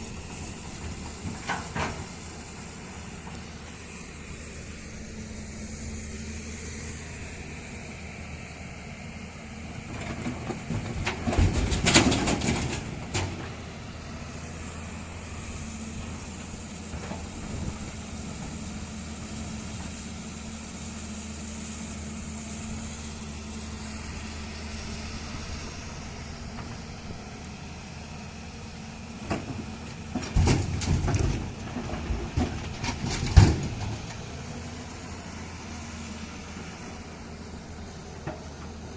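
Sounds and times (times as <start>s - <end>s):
diesel engine running: 0.0s - 38.9s
rough machinery noise: 0.0s - 38.9s.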